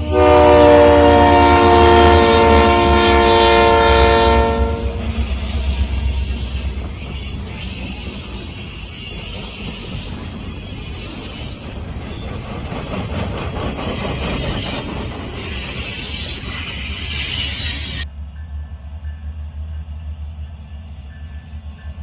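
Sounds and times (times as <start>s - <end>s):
high wheel squeal: 0.0s - 18.0s
wheels hissing on rail: 0.0s - 18.1s
train low rumble: 0.0s - 22.0s.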